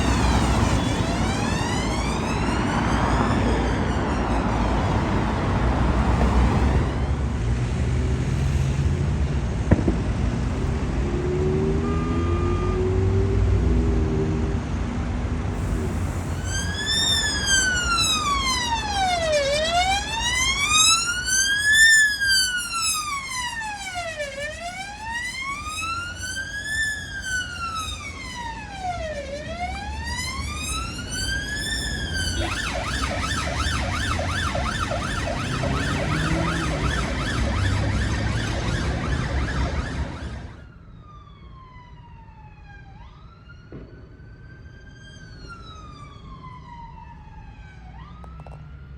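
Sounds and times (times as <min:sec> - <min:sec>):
emergency siren wailing: 0:00.0 - 0:09.0, 0:09.6 - 0:14.4, 0:15.4 - 0:48.9
vehicle road noise: 0:00.0 - 0:48.9.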